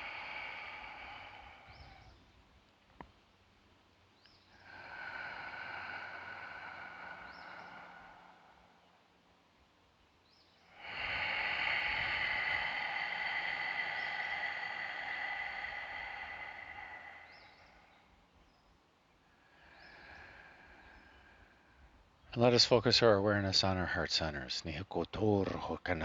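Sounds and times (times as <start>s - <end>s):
slow breath close to microphone: 0.0s - 3.1s, 4.2s - 24.3s.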